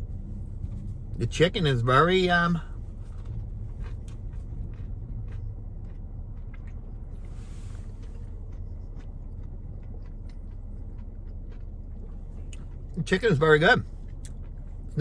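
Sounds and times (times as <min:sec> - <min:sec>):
low rumble: 0:00.0 - 0:15.0
person chewing crispy food: 0:00.0 - 0:15.0.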